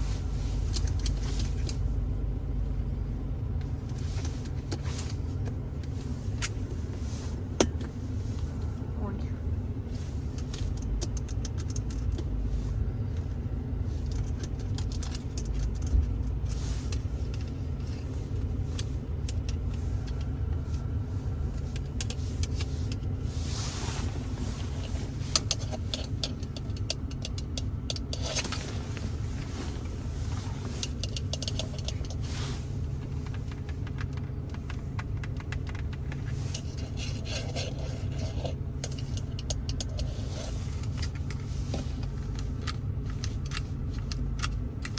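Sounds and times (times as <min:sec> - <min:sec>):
steady low rumble: 0:00.0 - 0:44.9.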